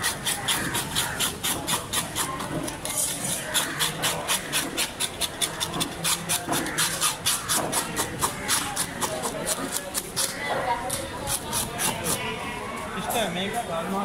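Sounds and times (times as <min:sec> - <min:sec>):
blade scraping fish scales: 0:00.0 - 0:12.4.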